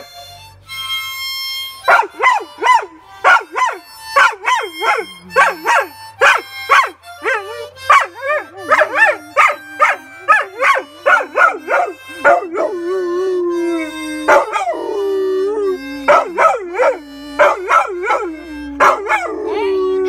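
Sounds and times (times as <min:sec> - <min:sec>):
harmonica chords: 0:00.0 - 0:20.0
dog howling: 0:01.9 - 0:20.0.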